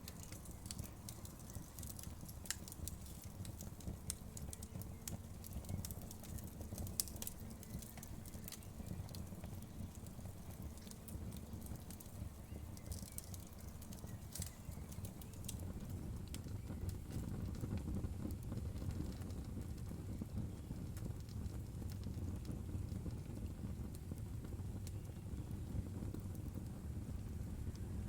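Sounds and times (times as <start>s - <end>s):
fire crackles and pops: 0.0s - 28.0s
low rumble of flames: 0.0s - 28.0s.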